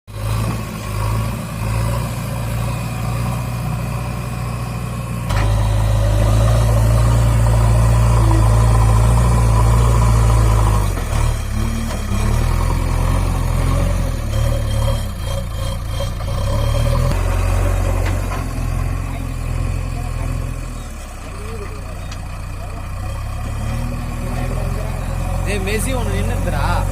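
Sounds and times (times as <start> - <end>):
backhoe diesel engine running: 0.1 - 26.9.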